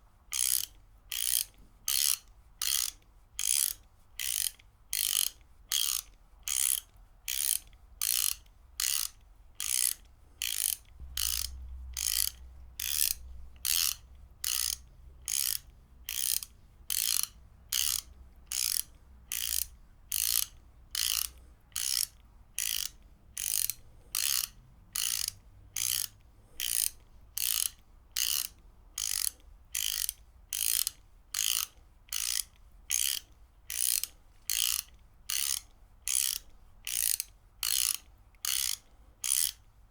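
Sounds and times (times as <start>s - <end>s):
ratchet wrench clicking: 0.3s - 39.6s.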